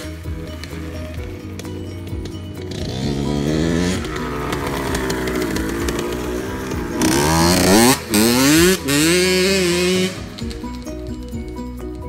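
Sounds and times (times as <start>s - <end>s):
motorbike engine revving: 0.0s - 11.8s.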